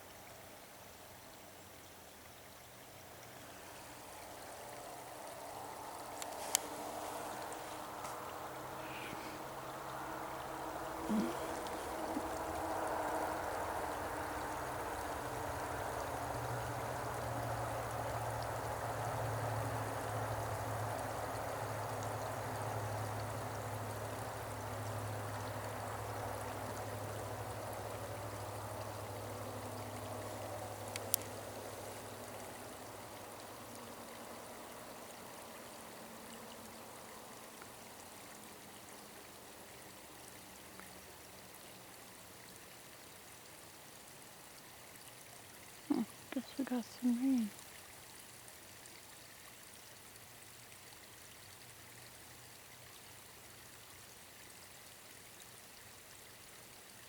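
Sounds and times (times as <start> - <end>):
waterfall into a pond: 0.0 - 57.0.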